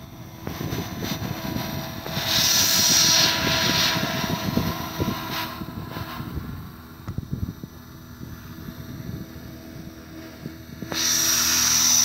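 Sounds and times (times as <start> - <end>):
electric motor whine: 0.0 - 12.0
rotor blades rushing: 0.0 - 12.0.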